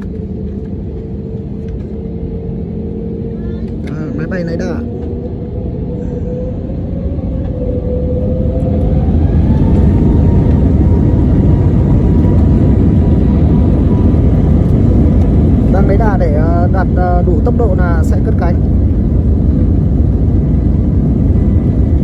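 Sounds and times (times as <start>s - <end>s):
jet engine whine: 0.0s - 22.0s.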